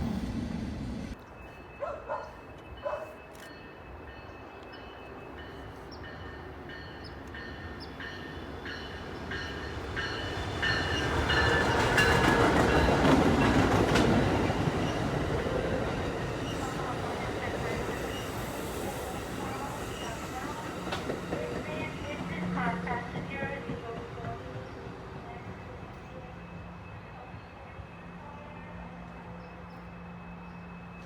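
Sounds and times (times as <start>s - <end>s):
train rumbling on tracks: 0.0s - 31.0s.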